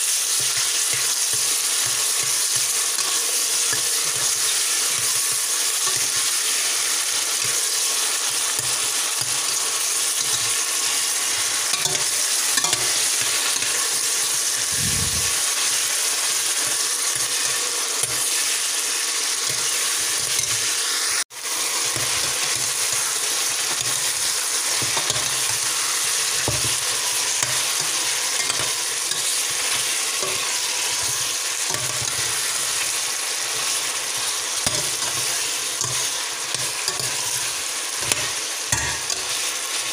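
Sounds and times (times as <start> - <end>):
food sizzling in a pot: 0.0 - 39.9
metal spoon stirring in pot: 0.3 - 14.7, 21.7 - 39.5.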